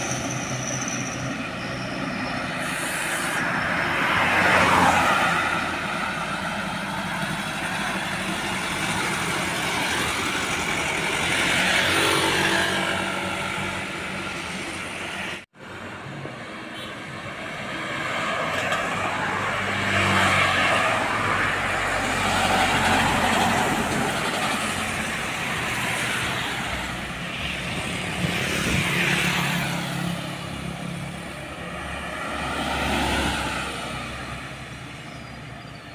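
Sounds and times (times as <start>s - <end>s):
heavy trucks passing: 0.0s - 35.9s
road traffic passing: 0.0s - 35.9s.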